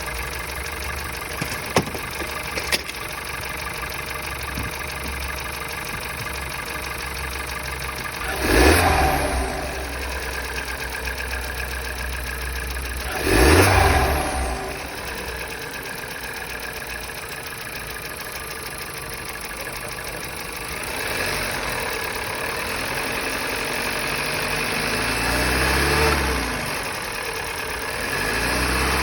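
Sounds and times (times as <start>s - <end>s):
engine revving: 0.0s - 17.2s, 20.1s - 29.0s
car engine idling with knock: 0.0s - 29.0s.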